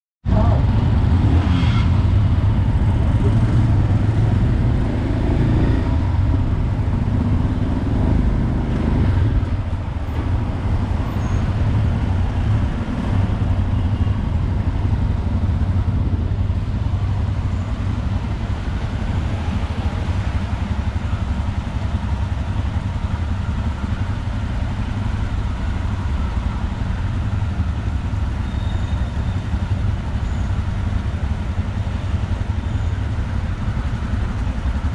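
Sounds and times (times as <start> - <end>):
motorcycle engines rumbling: 0.3 - 34.9.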